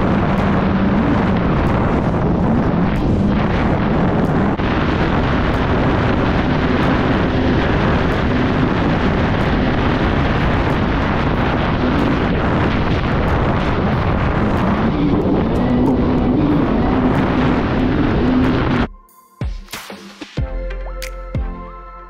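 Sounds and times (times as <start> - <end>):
jet ski engine hum: 0.0 - 18.9
wind noise on microphone: 0.0 - 18.9.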